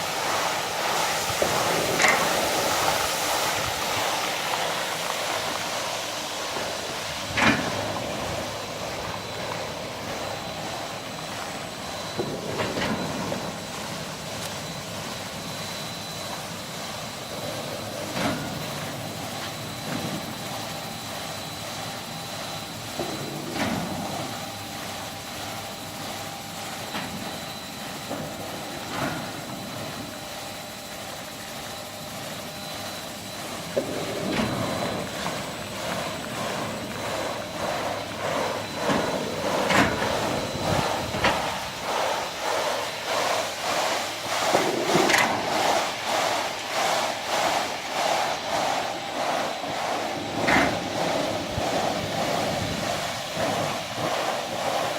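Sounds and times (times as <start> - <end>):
washing machine hum and whir: 0.0 - 54.9.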